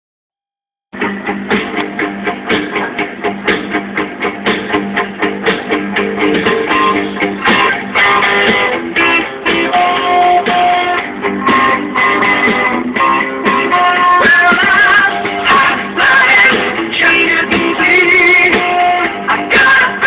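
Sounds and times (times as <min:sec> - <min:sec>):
strummed guitar music: 0:01.0 - 0:20.0.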